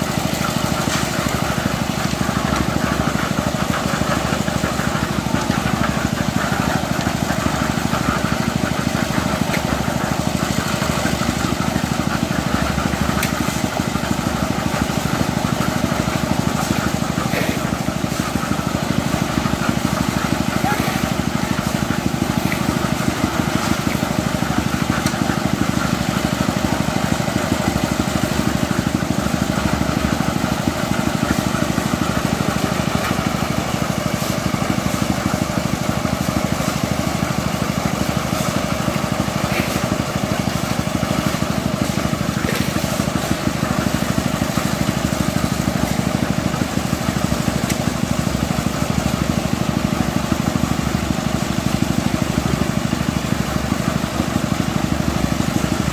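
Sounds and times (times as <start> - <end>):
machinery engine running steadily: 0.0 - 55.9.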